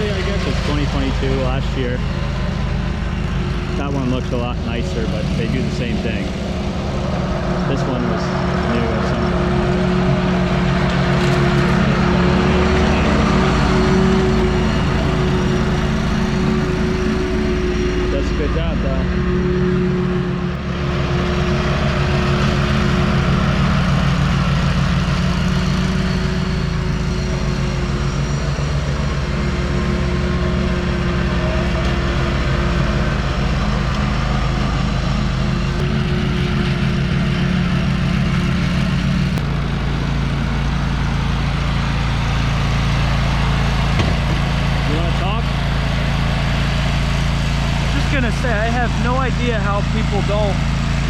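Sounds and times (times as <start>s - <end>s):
riding mower engine: 0.0s - 51.0s.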